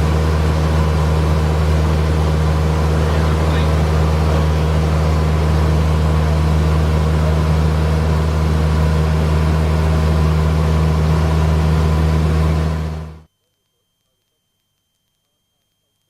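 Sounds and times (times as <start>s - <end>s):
aircraft engine and propeller drone: 0.0s - 13.3s.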